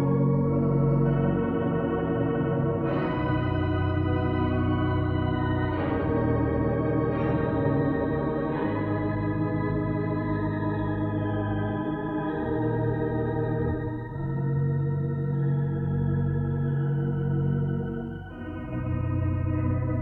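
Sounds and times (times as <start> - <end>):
pipe organ sustained chords: 0.0 - 20.0.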